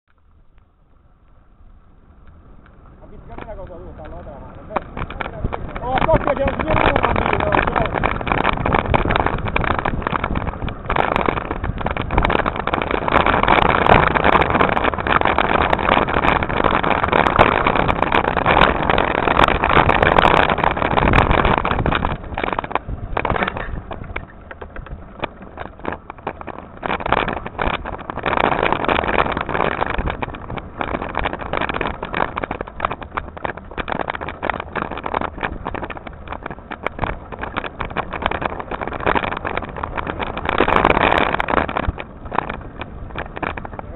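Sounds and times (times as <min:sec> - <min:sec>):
bike tyres and frame rattling: 0:00.1 - 0:43.9
wind buffeting microphone: 0:00.2 - 0:43.9.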